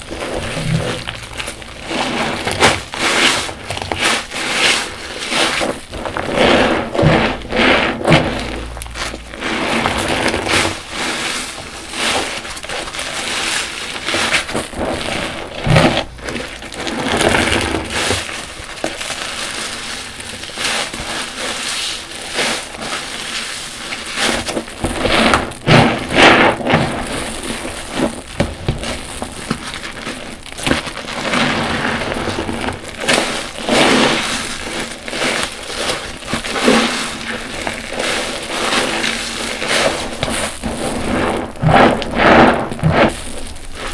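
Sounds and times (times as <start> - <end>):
wet sponge squelching: 0.0 - 43.9.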